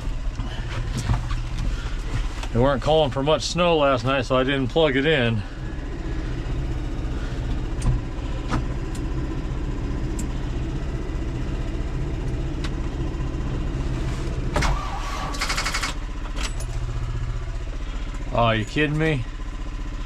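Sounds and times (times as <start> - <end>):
diesel engine cranking by starter: 0.0 - 20.0.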